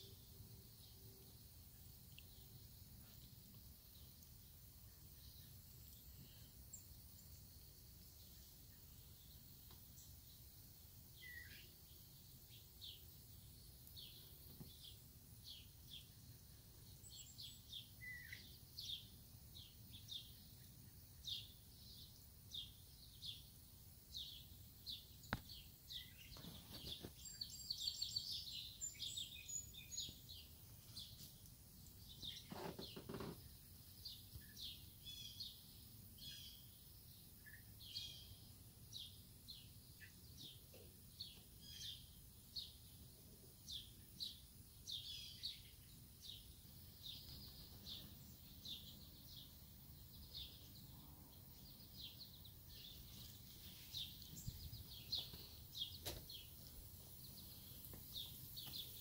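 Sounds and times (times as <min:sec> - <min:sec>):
faint birds chirping: 0:00.0 - 0:59.0.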